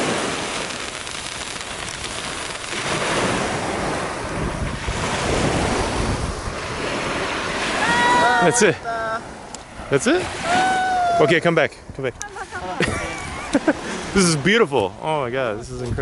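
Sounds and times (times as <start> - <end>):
wind on microphone: 0.0 - 14.5, 15.5 - 16.0
surf washing onto beach: 0.0 - 16.0.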